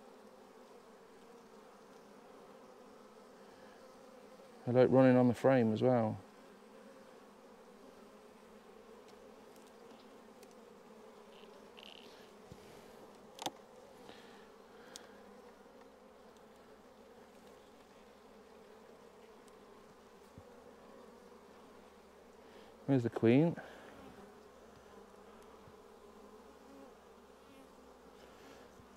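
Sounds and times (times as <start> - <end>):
honeybees humming: 0.0 - 28.9.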